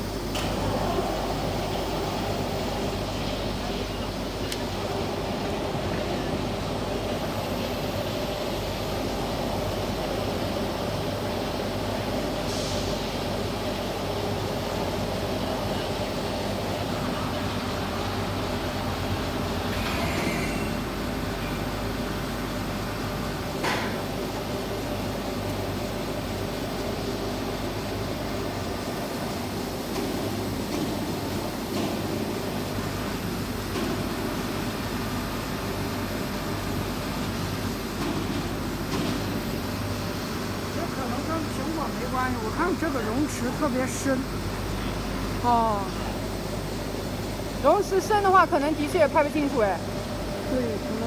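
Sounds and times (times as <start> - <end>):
welding machine hum and hiss: 0.0 - 51.0.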